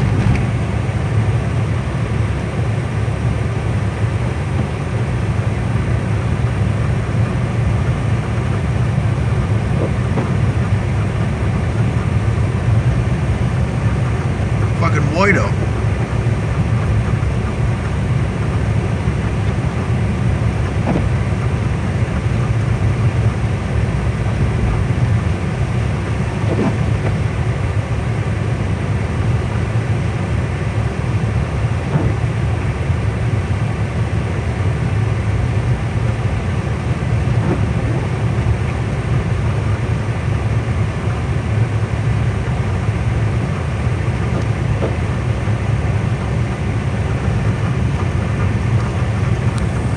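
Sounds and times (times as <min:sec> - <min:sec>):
car driving on icy road: 0:00.0 - 0:14.8, 0:15.6 - 0:49.9.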